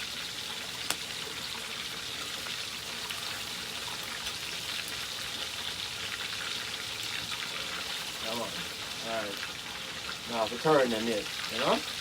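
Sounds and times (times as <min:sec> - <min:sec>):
food sizzling over fire: 0:00.0 - 0:12.0.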